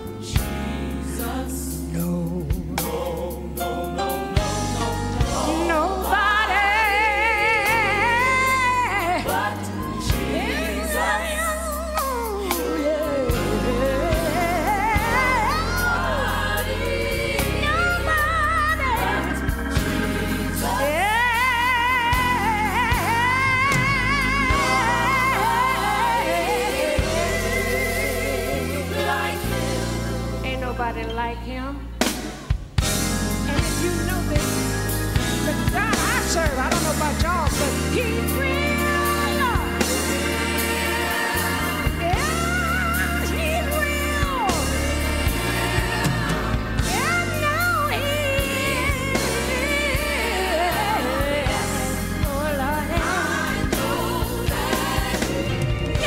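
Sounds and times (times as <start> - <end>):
band chords and bass: 0.0 - 56.0.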